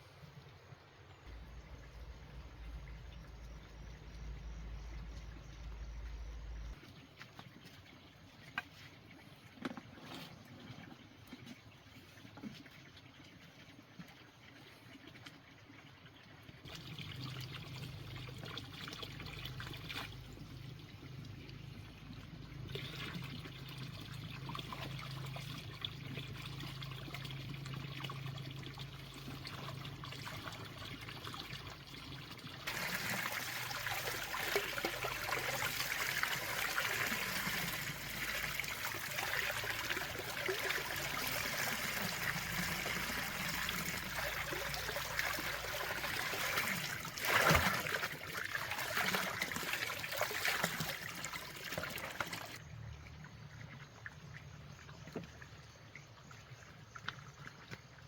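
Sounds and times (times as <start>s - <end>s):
water trickling: 0.3s - 58.0s.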